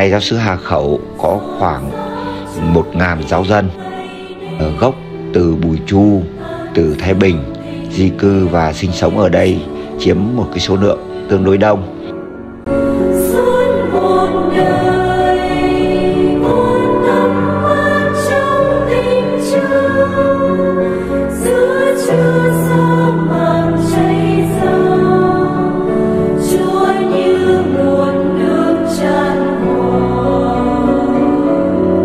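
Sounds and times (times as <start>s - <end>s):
choir singing slow held notes: 0.6s - 32.0s.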